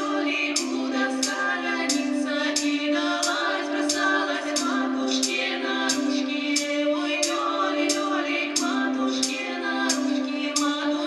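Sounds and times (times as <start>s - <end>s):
women's vocal trio singing: 0.0s - 11.0s.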